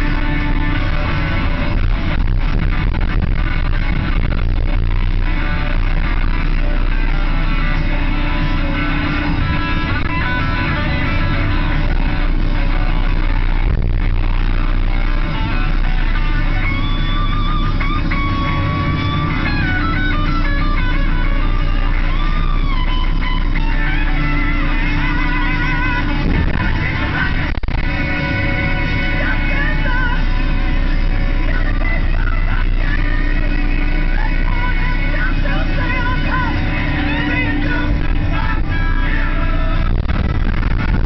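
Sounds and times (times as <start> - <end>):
excavator engine running: 0.0 - 41.0
rock music with electric guitar: 0.0 - 41.0.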